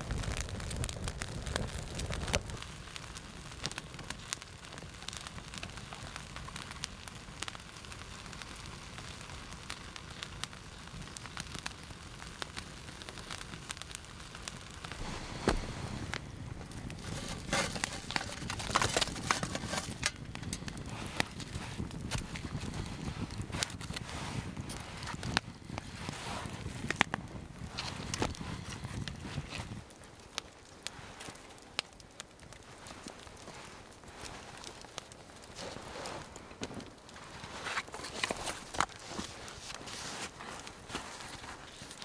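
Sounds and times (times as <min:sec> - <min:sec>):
campfire crackling and popping: 0:00.0 - 0:42.0
rush of flame: 0:00.0 - 0:42.0
sharp snap of burning wood: 0:00.0 - 0:42.0.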